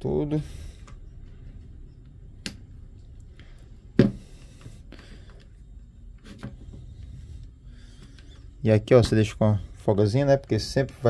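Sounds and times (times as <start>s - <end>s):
low steady background: 0.0s - 11.0s.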